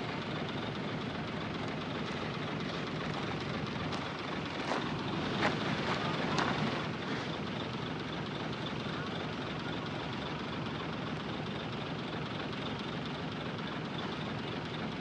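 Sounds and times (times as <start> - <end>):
earthmoving machinery running: 0.0 - 15.0.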